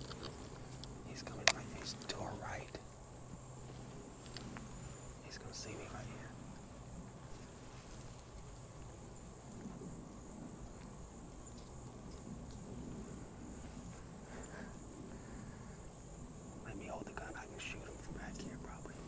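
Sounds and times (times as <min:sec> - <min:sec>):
faint low rumble: 0:00.0 - 0:19.0
insects chirring: 0:00.0 - 0:19.0.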